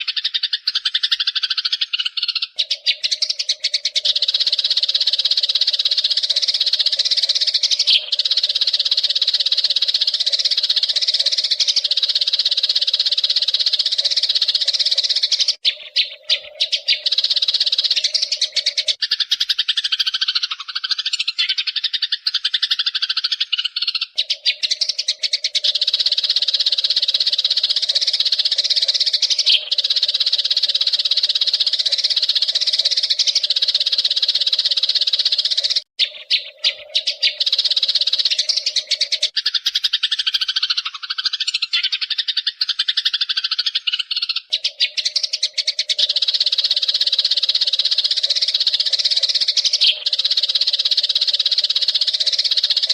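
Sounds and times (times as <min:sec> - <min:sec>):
sparrows chirping: 0:00.0 - 0:52.9.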